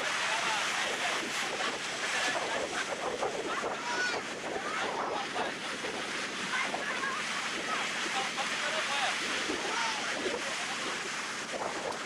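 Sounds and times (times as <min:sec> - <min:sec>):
people talking: 0:00.0 - 0:11.1
waves breaking on beach: 0:00.0 - 0:12.0.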